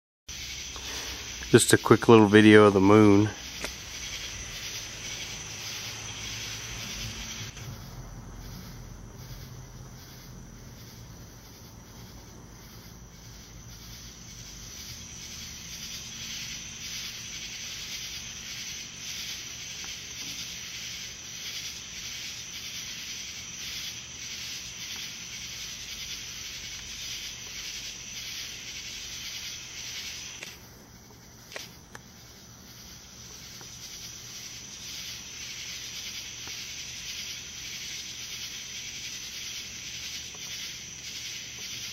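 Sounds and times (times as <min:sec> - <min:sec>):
crickets chirping: 0:00.3 - 0:41.9.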